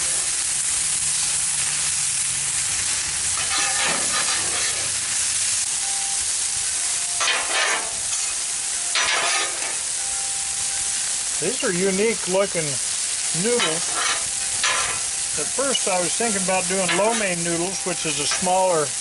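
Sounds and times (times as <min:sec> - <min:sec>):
noodles sizzling on a griddle: 0:00.0 - 0:19.0.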